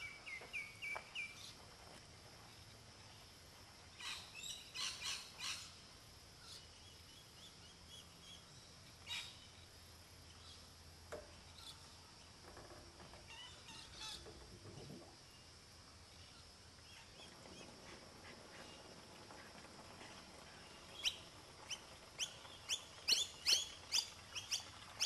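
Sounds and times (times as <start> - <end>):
faint high hiss: 0.0 - 25.0.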